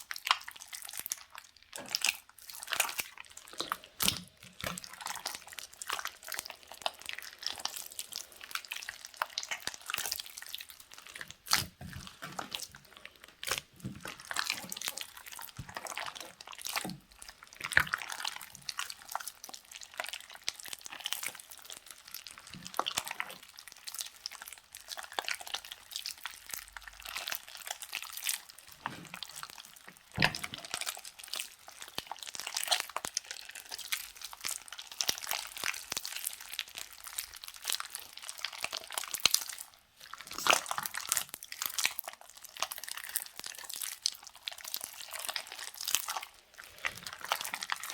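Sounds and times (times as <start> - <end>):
slime squished by hand: 0.1 - 47.9.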